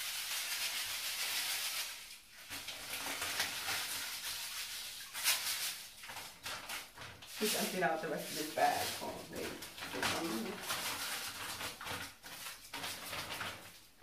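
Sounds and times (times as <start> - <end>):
salt crystals pouring into water: 0.0 - 14.0.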